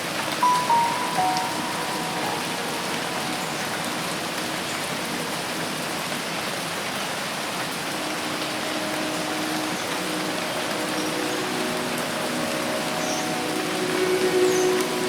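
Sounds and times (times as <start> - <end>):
dense rain falling: 0.0 - 15.0.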